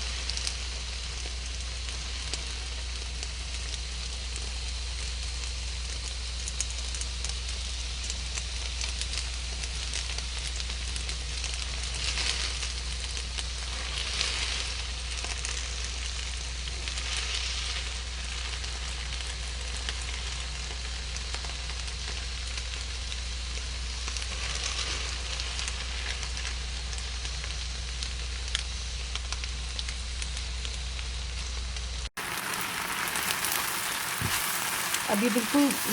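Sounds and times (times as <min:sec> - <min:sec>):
noodles sizzling in hot pan: 0:00.0 - 0:30.8, 0:31.4 - 0:35.9.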